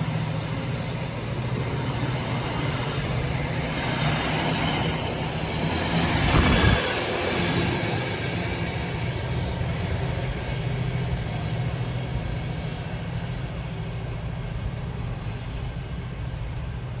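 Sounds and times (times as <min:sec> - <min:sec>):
coaches rumbling on rails: 0:00.0 - 0:17.0
diesel locomotive engine droning: 0:00.0 - 0:17.0.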